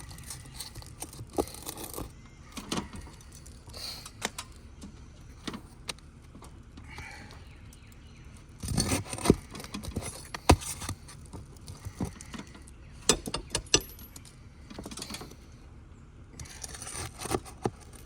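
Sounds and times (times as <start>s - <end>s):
hand tools clicking and scraping: 0.0s - 15.5s, 16.4s - 18.0s.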